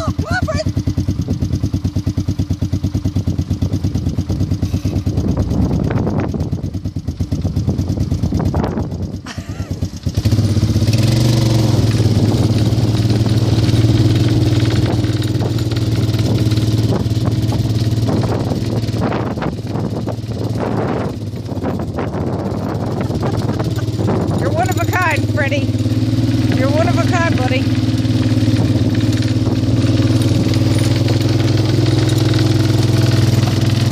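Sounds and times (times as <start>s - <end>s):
atv engine running: 0.0s - 33.9s.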